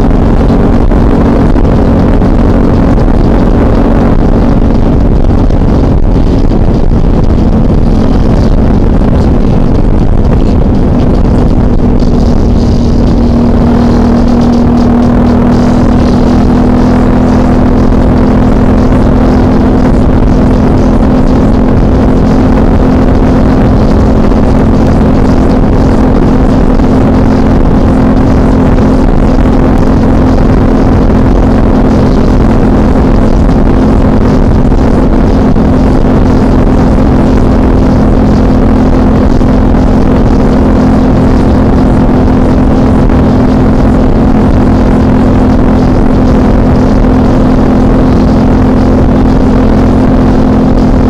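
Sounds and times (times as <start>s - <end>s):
motorcycle engine cruising: 0.0s - 51.0s
wind noise: 0.0s - 51.0s.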